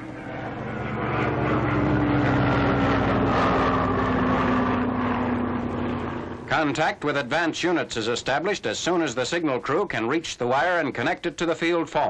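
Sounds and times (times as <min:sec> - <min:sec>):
propeller airplane engines droning: 0:00.0 - 0:12.0.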